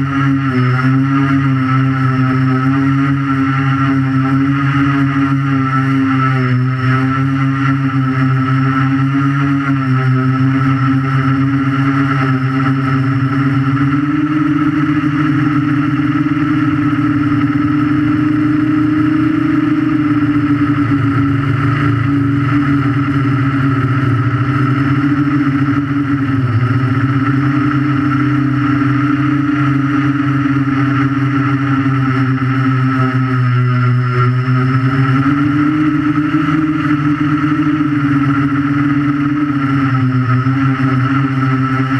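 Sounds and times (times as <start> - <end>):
quadcopter motors buzzing whine: 0.0 - 41.9.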